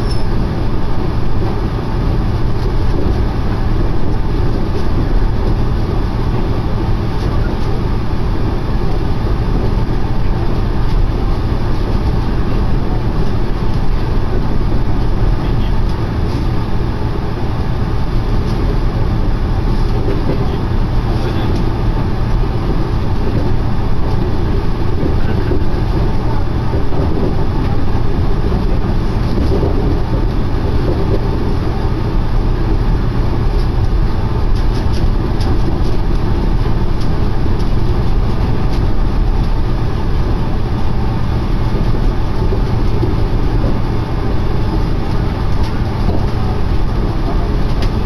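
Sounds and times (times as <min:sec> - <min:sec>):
monorail car rumbling: 0:00.0 - 0:48.0.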